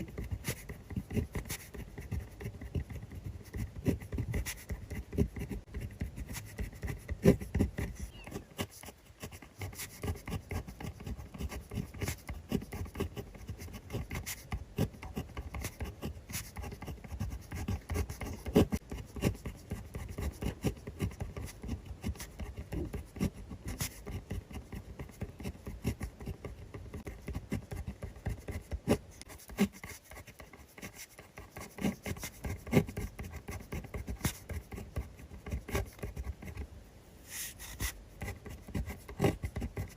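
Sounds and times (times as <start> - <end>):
pen scratching on paper: 0.0 - 39.9.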